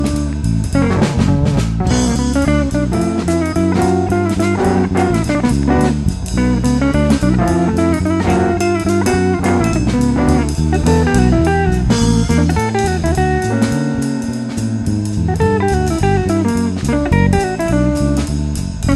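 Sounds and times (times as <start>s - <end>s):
upbeat blues-jazz band: 0.0s - 18.9s.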